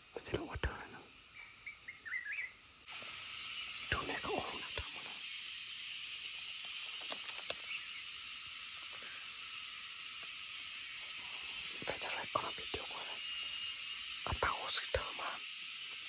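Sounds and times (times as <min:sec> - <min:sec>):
hissing forest ambience: 0:00.0 - 0:16.0.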